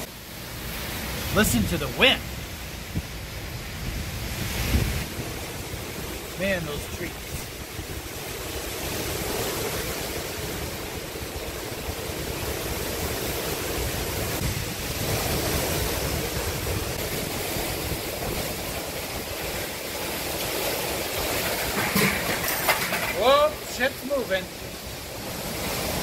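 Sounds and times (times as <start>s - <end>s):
strong wind blowing: 0.0s - 23.5s
driving rain: 0.0s - 26.0s
wind buffeting microphone: 1.5s - 23.0s.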